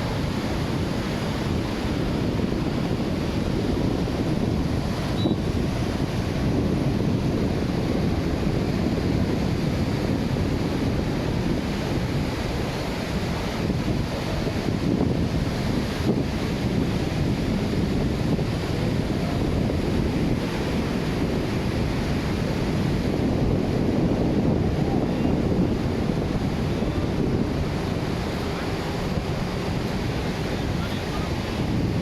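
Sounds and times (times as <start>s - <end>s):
surf washing onto beach: 0.0s - 32.0s
wind buffeting microphone: 0.0s - 32.0s.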